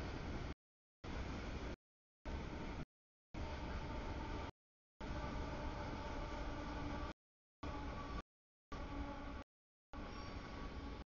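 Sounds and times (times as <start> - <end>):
faint steady tones: 0.0 - 11.0.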